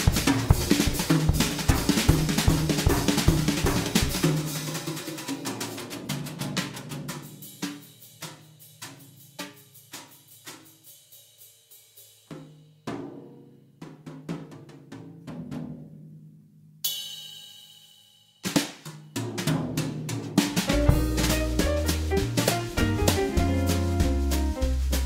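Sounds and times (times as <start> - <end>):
drum kit beat: 0.0 - 15.8, 18.4 - 25.0.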